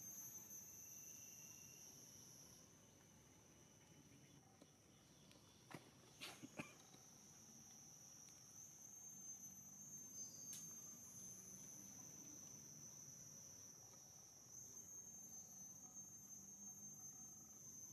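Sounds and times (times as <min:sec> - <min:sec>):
insects droning: 0:00.0 - 0:17.9.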